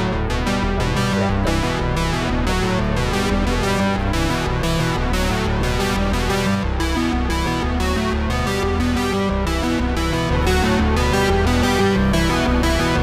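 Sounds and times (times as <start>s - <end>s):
electronic synthesizer music: 0.0s - 13.0s.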